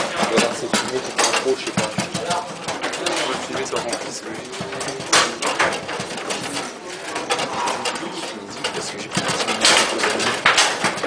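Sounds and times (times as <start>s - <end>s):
foosball rods knocking: 0.0s - 11.0s
foosball table rattle: 0.0s - 11.0s.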